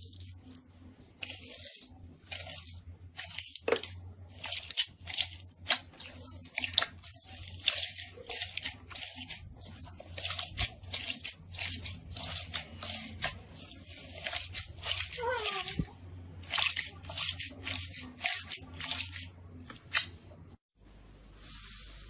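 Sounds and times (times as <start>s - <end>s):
slime squelching and crackling: 0.0s - 20.2s.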